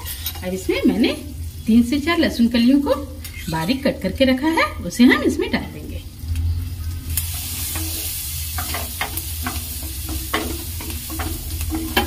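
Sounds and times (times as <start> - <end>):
garlic sizzling in butter: 0.0 - 4.0, 5.3 - 12.0.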